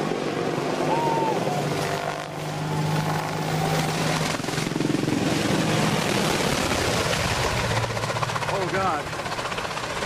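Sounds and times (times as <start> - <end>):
helicopter engine hum: 0.0 - 10.0
helicopter rotor chop: 0.0 - 10.0.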